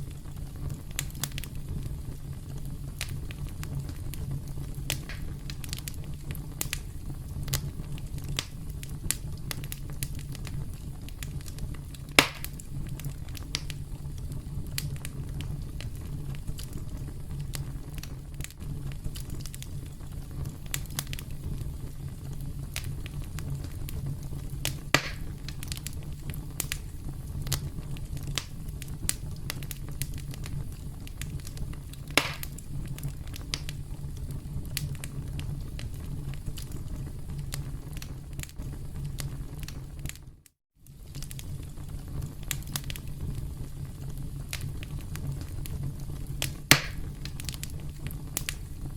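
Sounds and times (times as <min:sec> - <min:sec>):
campfire crackling: 0:00.0 - 0:48.9
loud fire pops: 0:00.0 - 0:48.9.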